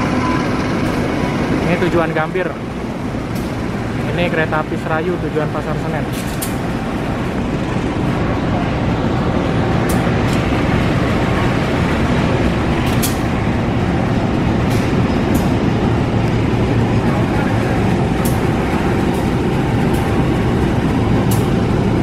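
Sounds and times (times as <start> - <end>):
diesel locomotive engine rumble: 0.0 - 22.0
train coaches rolling by: 0.0 - 22.0.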